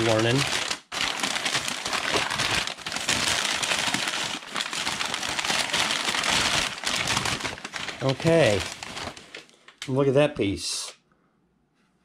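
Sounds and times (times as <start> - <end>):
packing paper crinkling: 0.0 - 9.9.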